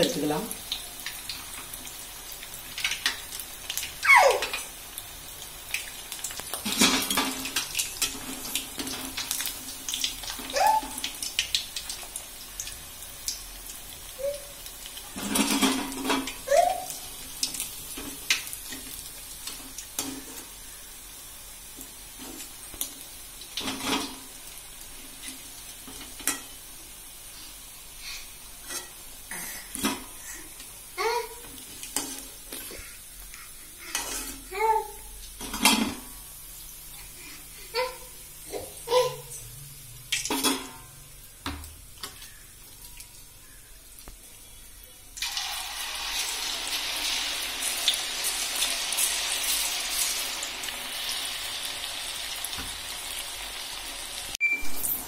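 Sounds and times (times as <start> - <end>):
meat deep-frying in oil: 0.0 - 55.0.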